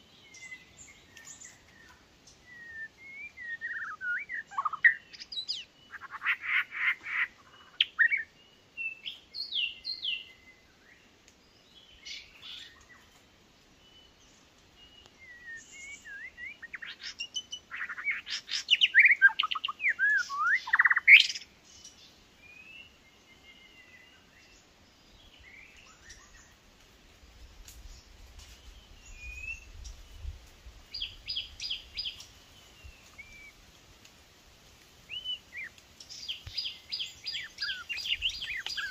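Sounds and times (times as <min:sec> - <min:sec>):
birds whistling and trilling: 0:00.0 - 0:10.8, 0:13.9 - 0:26.6, 0:28.0 - 0:30.3, 0:30.9 - 0:33.6, 0:35.1 - 0:38.9.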